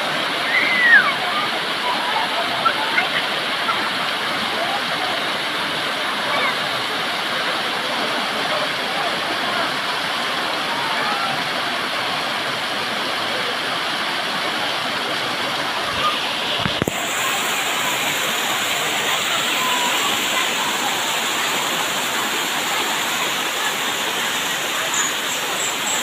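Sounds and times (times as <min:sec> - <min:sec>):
waterfall rushing and splashing: 0:00.0 - 0:26.0.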